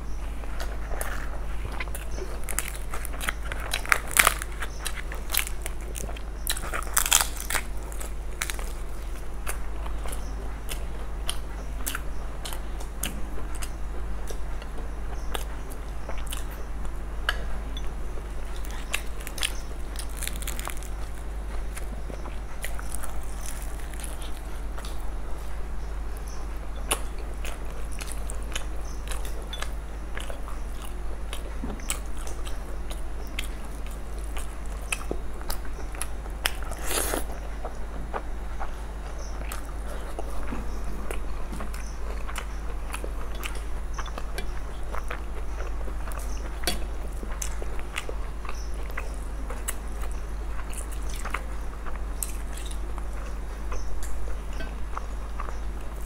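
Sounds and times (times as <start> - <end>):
steady low hum: 0.0 - 56.0
people chewing and lip-smacking: 0.1 - 56.0.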